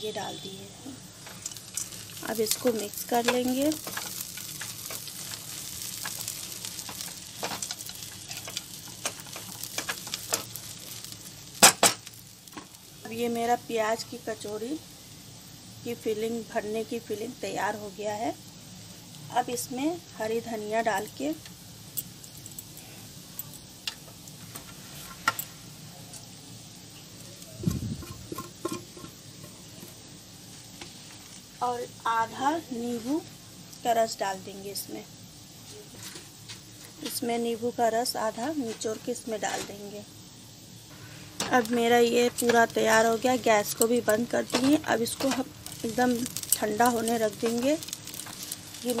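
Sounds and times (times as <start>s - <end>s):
filling sizzling in a pan: 0.0s - 49.0s.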